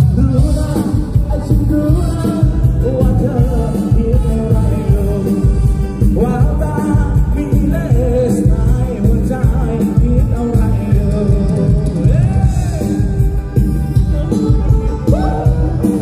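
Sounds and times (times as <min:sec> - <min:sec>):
live band with heavy bass beat: 0:00.0 - 0:16.0
person singing: 0:00.0 - 0:16.0.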